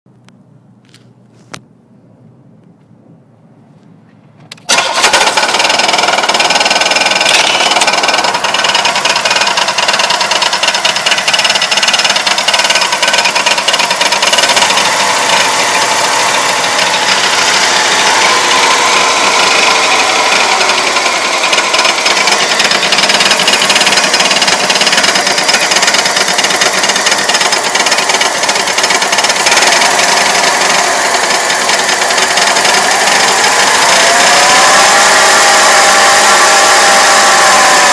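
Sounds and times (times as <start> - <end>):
car engine knocking and rattling: 4.6 - 37.9.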